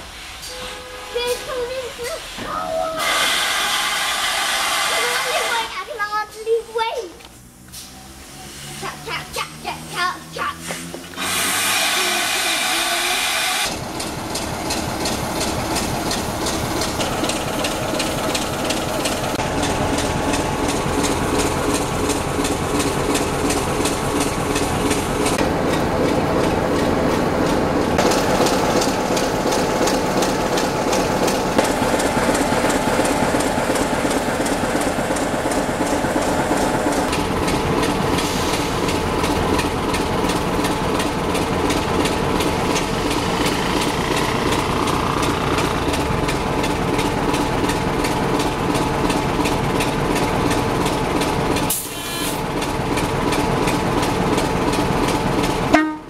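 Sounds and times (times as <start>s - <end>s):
diesel locomotive engine throbbing: 0.0s - 56.0s.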